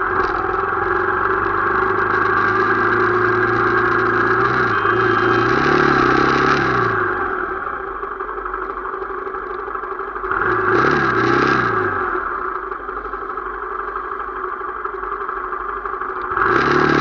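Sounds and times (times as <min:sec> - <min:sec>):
motorcycle engine revving: 0:00.0 - 0:13.3, 0:15.1 - 0:17.0.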